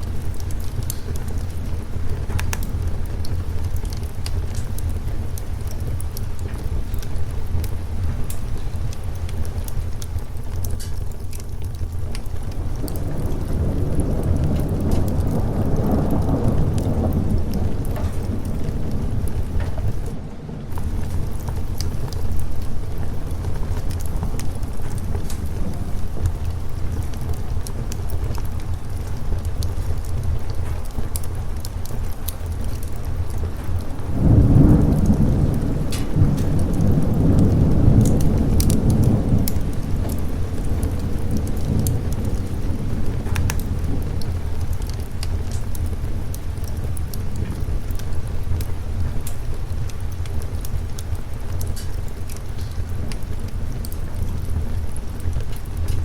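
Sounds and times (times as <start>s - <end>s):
sharp crackles: 0.0s - 56.0s
steady rain: 0.0s - 56.0s
thunder rumbling: 0.0s - 56.0s.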